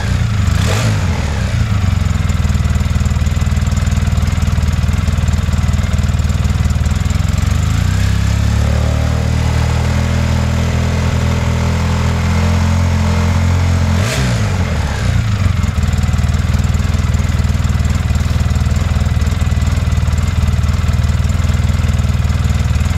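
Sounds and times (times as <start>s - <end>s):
atv engine idling and revving: 0.0s - 22.9s.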